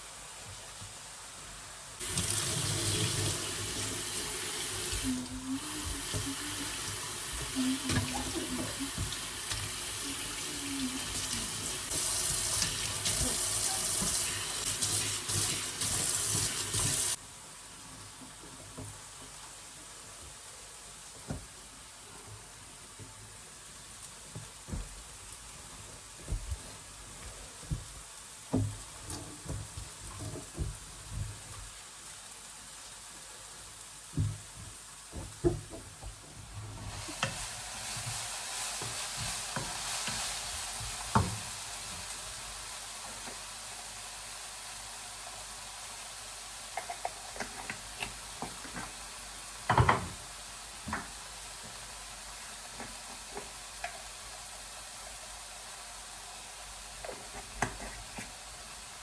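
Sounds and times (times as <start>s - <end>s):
hot pan sizzling: 1.9s - 17.7s, 27.2s - 59.0s.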